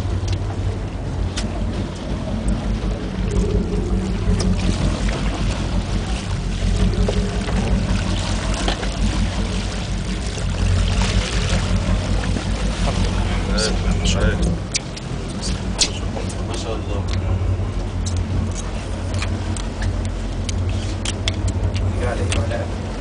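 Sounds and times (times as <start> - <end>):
boat engine running: 0.0 - 23.0
water sloshing against hull: 0.0 - 23.0.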